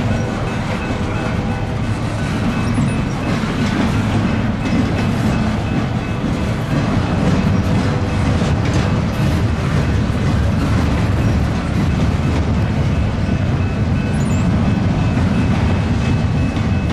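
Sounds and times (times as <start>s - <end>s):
freight train wheels rumbling on rails: 0.0s - 16.9s.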